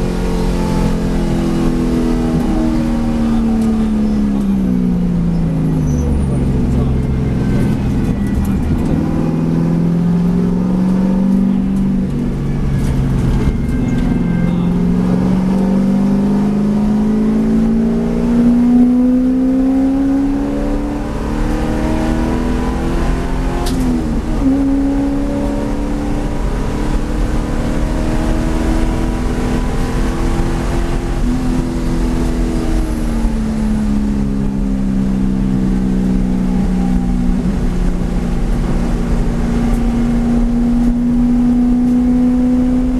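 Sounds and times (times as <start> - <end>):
race car engine accelerating: 0.0 - 42.9.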